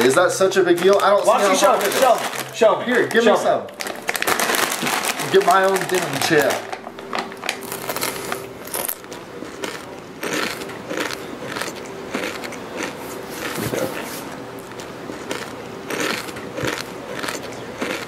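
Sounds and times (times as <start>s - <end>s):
tortilla chips crunching: 0.8s - 18.0s.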